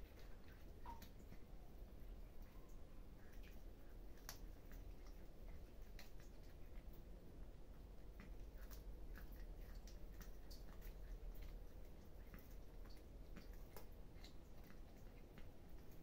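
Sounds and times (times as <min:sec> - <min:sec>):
cats chewing wetly: 0:00.0 - 0:16.0
low steady hum: 0:00.0 - 0:16.0.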